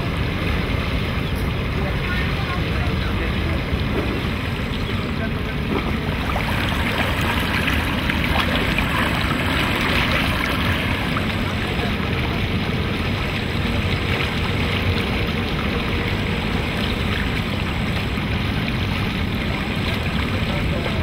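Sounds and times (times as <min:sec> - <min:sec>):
river water rushing and splashing: 0:00.0 - 0:21.0
steady low rumble: 0:00.0 - 0:21.0.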